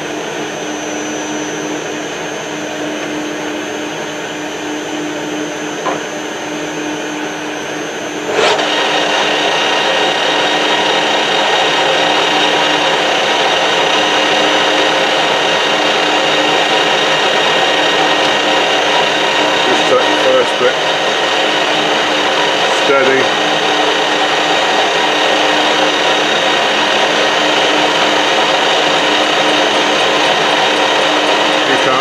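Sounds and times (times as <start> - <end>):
lathe running: 0.0 - 32.0.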